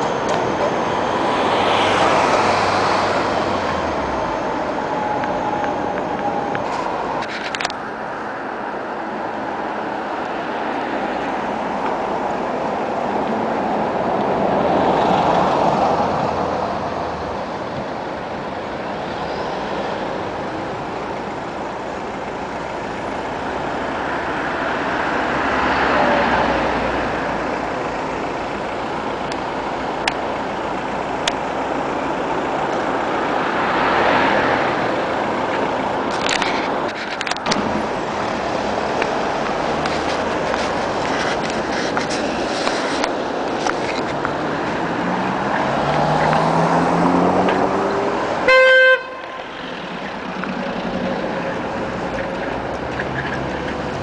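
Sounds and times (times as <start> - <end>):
road traffic noise: 0.0 - 54.0
vehicles passing close: 0.0 - 54.0.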